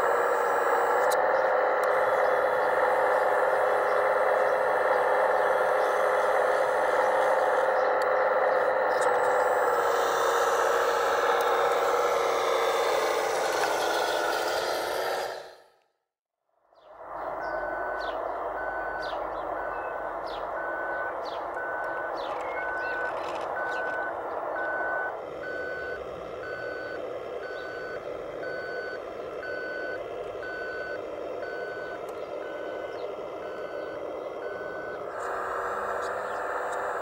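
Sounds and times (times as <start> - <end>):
reversing alarm beeping: 0.0 - 13.8, 17.2 - 37.0
diesel engine sound: 0.0 - 37.0.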